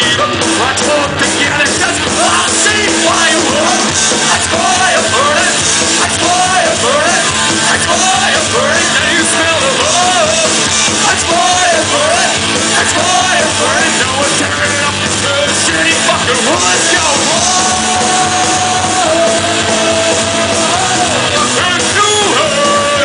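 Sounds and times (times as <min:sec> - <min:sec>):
person singing: 0:00.0 - 0:23.0
punk rock band playing live: 0:00.0 - 0:23.0.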